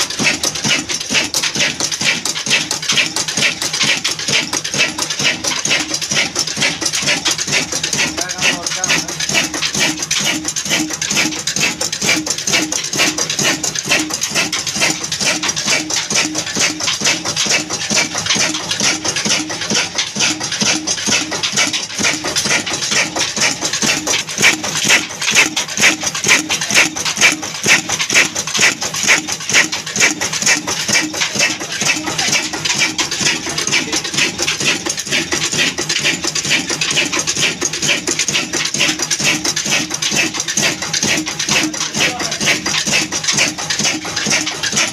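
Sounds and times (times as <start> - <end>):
diesel engine running: 0.0 - 44.9
fast mechanical clatter: 0.0 - 44.9.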